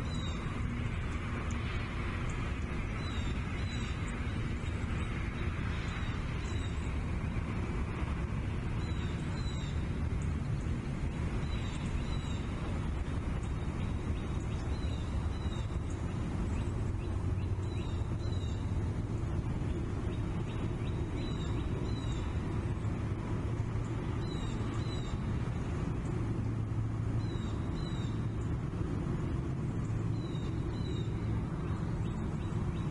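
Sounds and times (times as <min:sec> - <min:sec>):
wind rumble: 0:00.0 - 0:32.9.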